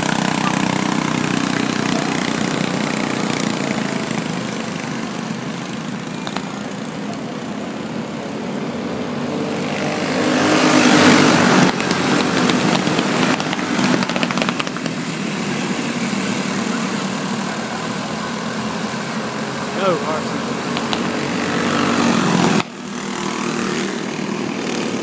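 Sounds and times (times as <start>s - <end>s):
go-kart engines racing: 0.0s - 25.0s.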